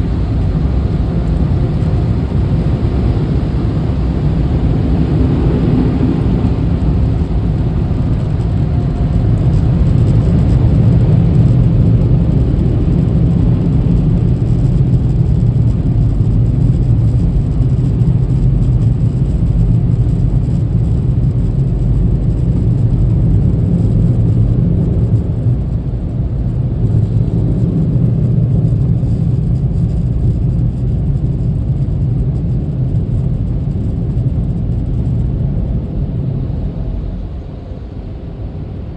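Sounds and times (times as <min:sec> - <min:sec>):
car interior rumble: 0:00.0 - 0:38.9.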